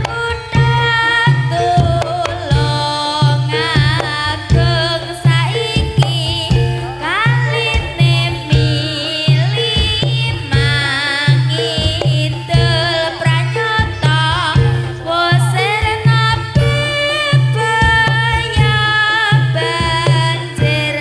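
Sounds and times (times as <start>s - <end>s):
drums beating low pulse: 0.0s - 21.0s
ornamented high melody: 0.5s - 21.0s.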